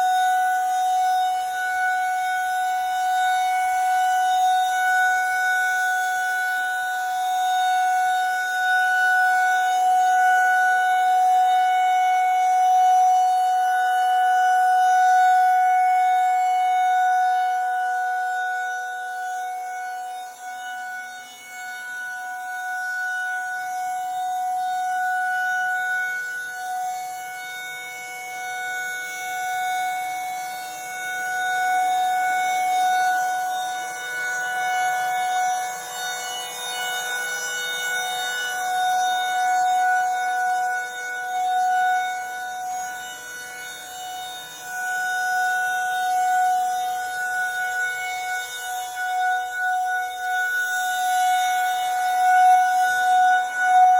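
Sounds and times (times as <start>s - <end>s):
warning siren steady tone: 0.0s - 53.9s.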